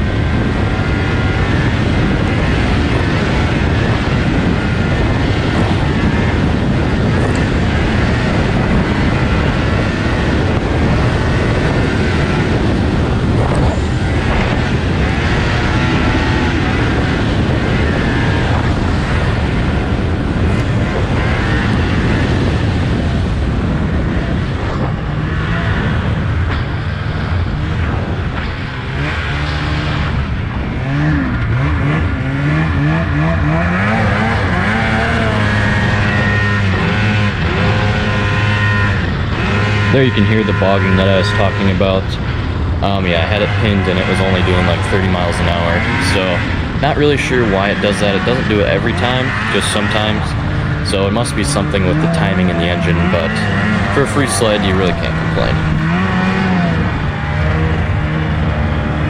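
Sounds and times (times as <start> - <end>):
snowmobile engine revving: 0.0 - 59.0
track noise: 0.0 - 59.0
wind noise: 0.0 - 59.0.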